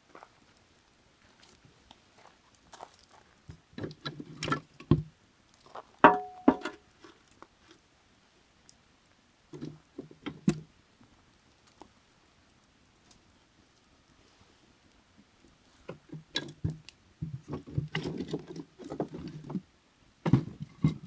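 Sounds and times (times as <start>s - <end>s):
firewood crackling and popping: 0.0s - 20.8s.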